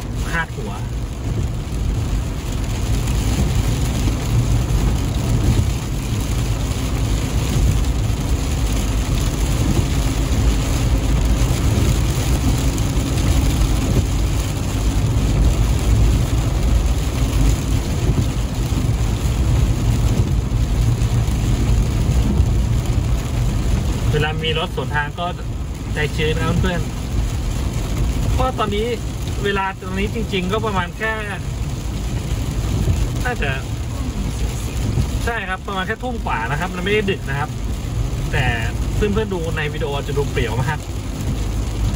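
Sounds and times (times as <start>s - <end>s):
car driving on wet road: 0.0s - 41.9s.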